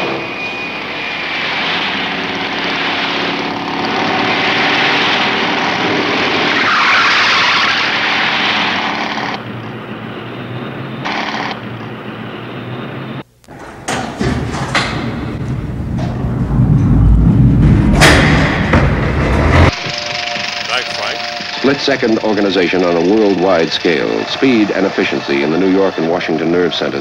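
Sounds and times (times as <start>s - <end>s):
rushing vehicle noise: 0.0s - 13.2s, 14.5s - 27.0s
engine drone: 0.0s - 13.3s, 15.2s - 27.0s.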